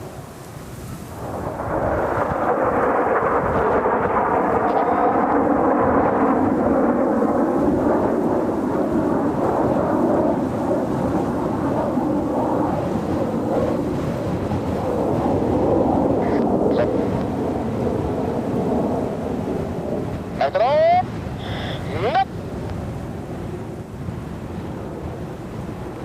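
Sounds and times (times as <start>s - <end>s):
jet engines roaring past: 0.0s - 26.0s.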